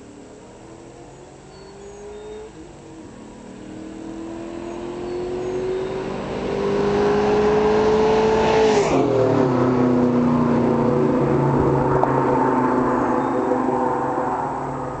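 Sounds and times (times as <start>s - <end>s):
car engine passing at full throttle: 0.2s - 15.0s.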